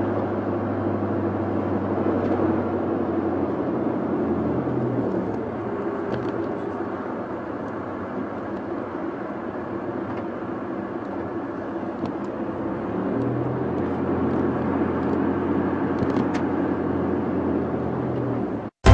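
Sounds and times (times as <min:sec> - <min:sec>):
vehicle engine and road noise: 0:00.0 - 0:18.9.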